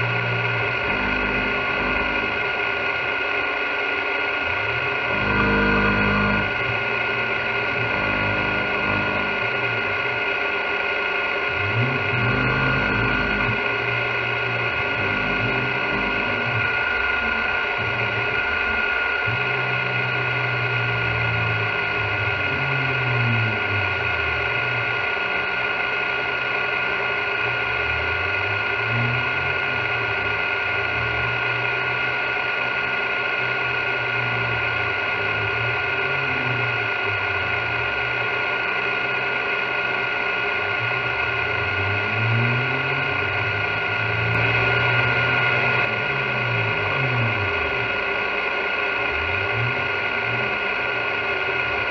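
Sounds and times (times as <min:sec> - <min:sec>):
milling spindle whining: 0:00.0 - 0:51.9
motor tones rising and falling: 0:00.0 - 0:51.9.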